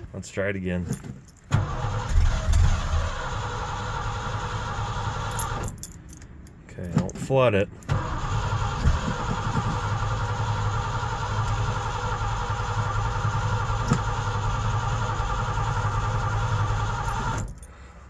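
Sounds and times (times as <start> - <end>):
engine cranking by starter: 0.9 - 6.0, 7.8 - 17.8.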